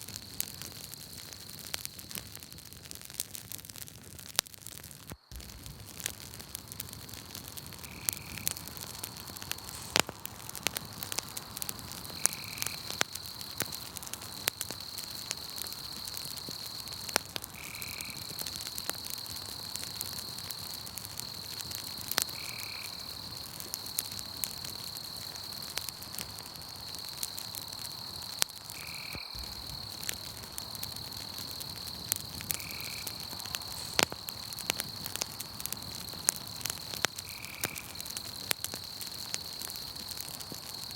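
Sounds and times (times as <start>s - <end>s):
campfire crackling and popping: 0.0s - 40.9s
insect trill: 4.8s - 40.9s.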